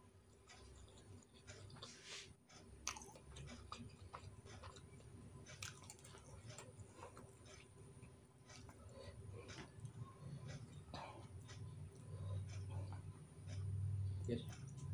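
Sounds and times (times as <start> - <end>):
person chewing food: 0.0 - 14.9.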